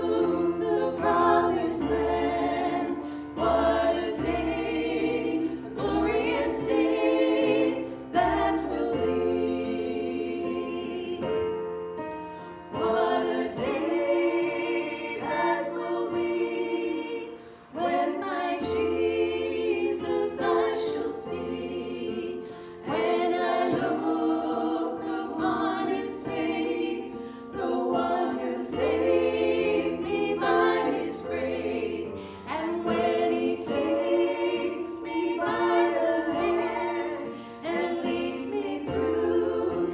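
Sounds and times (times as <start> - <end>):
group of voices singing: 0.0 - 11.5, 12.6 - 39.9.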